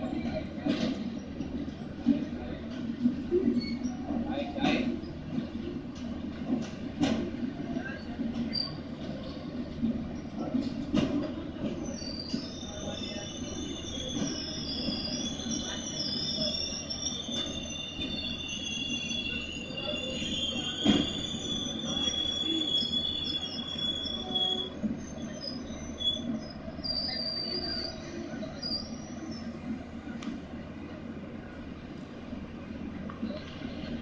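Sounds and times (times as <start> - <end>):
low rumble of rolling coaches: 0.0 - 34.0
train wheels squealing on rails: 0.0 - 34.0.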